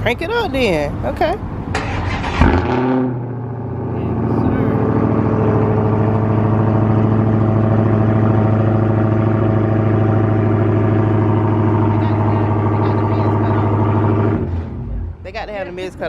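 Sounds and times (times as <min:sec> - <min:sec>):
loud car engine idling: 0:00.0 - 0:16.0.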